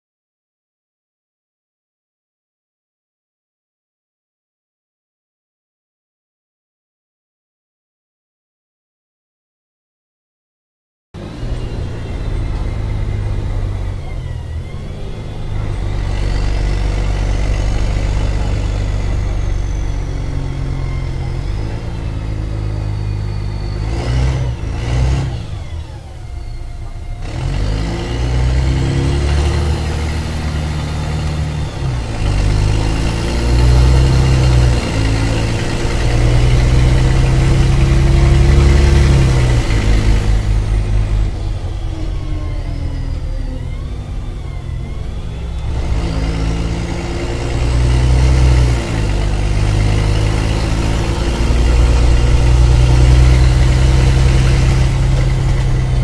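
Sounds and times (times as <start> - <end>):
bus diesel engine rumble: 11.2 - 56.0
high gearbox whine: 11.2 - 56.0.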